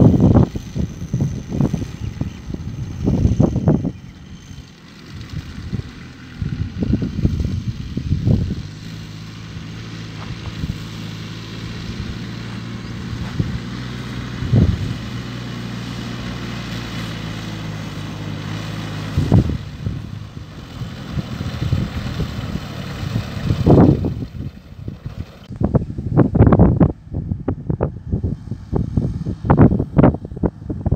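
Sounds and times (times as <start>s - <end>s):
low rumbles: 0.0s - 30.9s
tractor engine running: 0.0s - 30.9s.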